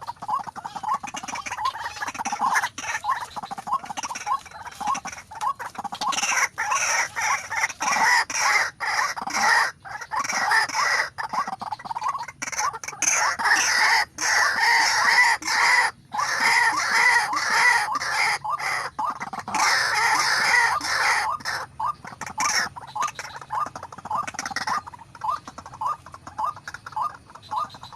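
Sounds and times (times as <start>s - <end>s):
waterhens calling harshly: 0.0s - 27.9s.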